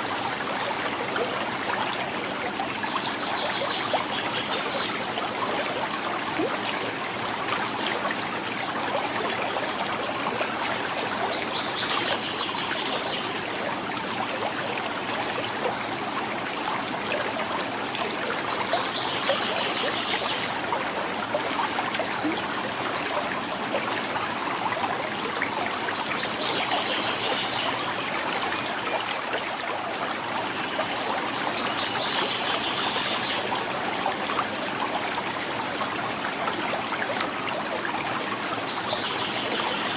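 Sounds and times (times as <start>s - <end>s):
river gurgling and trickling: 0.0s - 39.9s.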